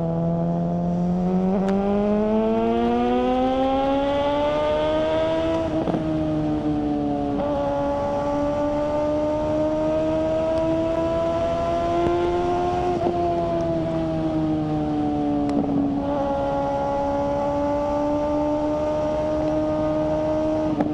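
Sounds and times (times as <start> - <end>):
motorcycle engine accelerating: 0.0 - 20.9.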